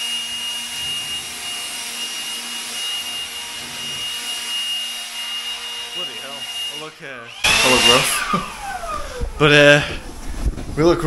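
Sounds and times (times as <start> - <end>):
cordless blower running: 0.0 - 10.4.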